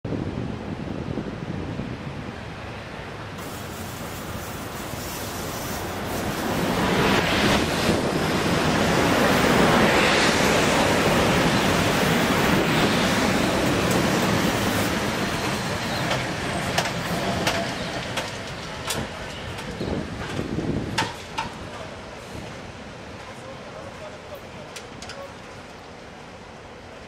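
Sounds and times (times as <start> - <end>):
electric locomotives passing: 2.2 - 27.0.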